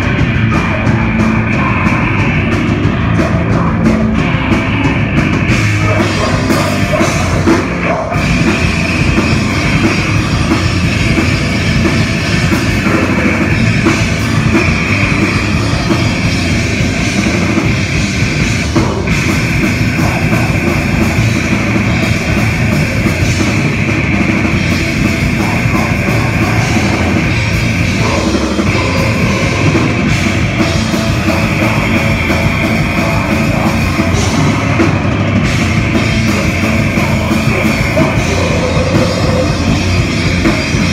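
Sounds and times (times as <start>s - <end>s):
metal band playing: 0.0s - 40.9s.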